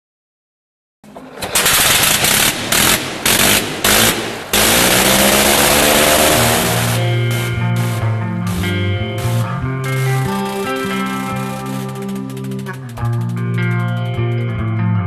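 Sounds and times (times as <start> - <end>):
rough aircraft engine running: 1.1 - 14.4.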